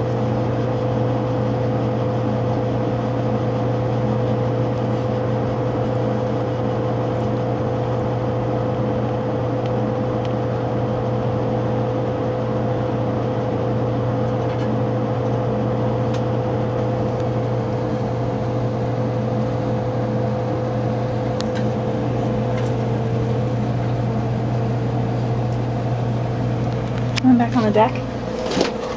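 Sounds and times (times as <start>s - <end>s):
steady mechanical hum: 0.0s - 28.9s.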